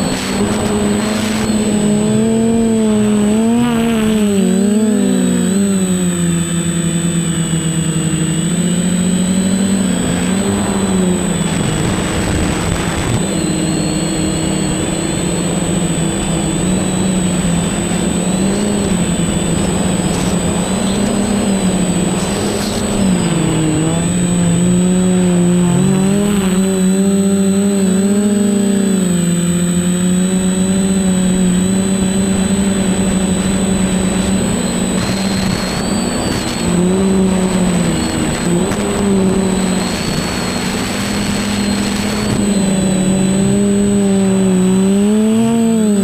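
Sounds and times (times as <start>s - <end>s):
drone propellers whining: 0.0s - 46.0s.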